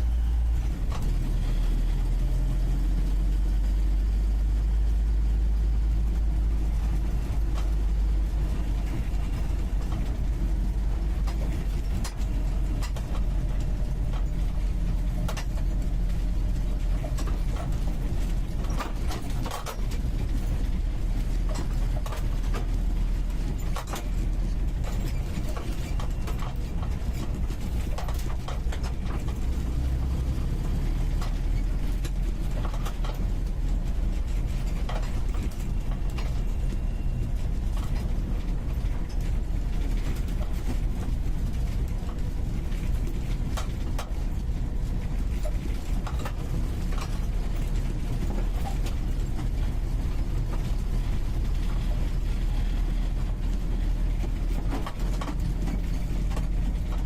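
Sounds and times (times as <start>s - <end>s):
car engine running: 0.0s - 57.0s
car body rattling and knocking: 6.0s - 57.0s.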